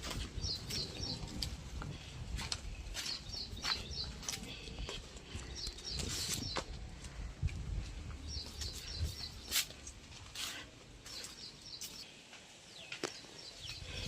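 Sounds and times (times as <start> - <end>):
small birds chirping: 0.0 - 7.4, 8.1 - 14.0.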